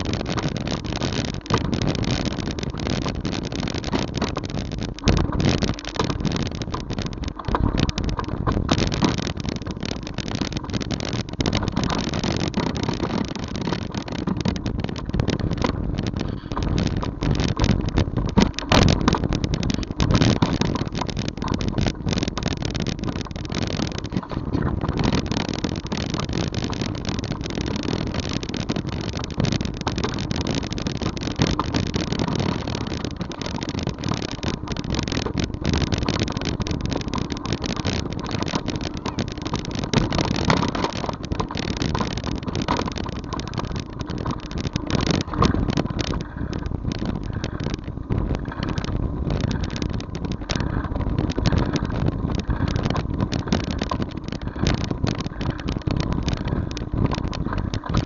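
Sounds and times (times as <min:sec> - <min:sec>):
road rumble: 0:00.0 - 0:58.0
wind noise: 0:00.0 - 0:58.0.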